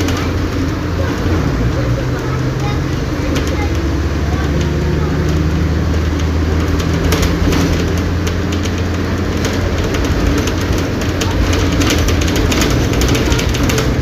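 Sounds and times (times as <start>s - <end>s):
bus body rattling clicks: 0.0s - 14.0s
bus diesel engine running: 0.0s - 14.0s.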